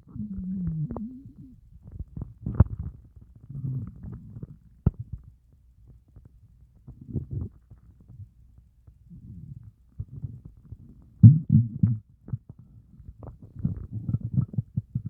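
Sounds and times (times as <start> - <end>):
stomach growling: 0.0 - 5.2, 6.9 - 8.2, 9.1 - 15.0
stomach gurgling: 0.0 - 5.2, 6.9 - 8.2, 9.2 - 15.0.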